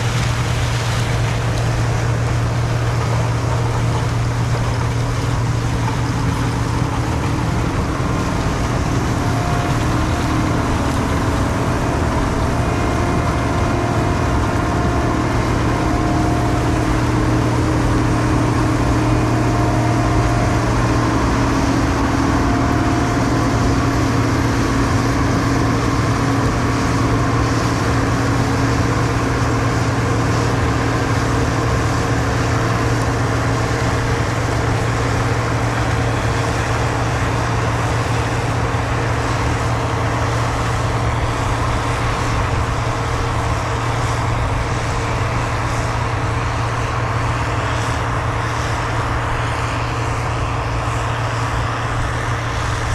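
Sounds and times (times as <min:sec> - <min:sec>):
diesel harvest machinery running: 0:00.0 - 0:52.9.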